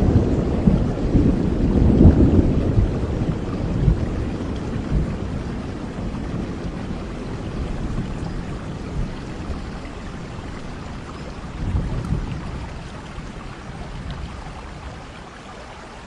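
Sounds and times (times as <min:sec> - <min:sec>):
thunder rolling: 0:00.0 - 0:14.6
steady rain: 0:00.0 - 0:16.0.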